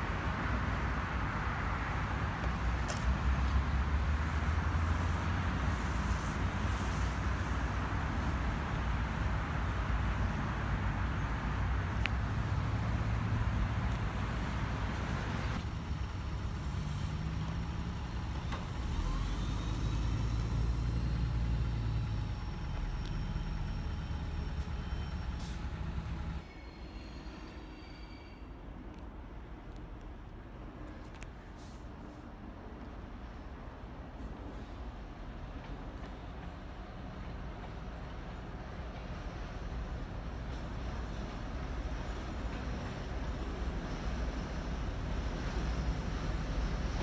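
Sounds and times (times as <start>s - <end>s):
diesel locomotive engine drone: 0.0s - 47.0s.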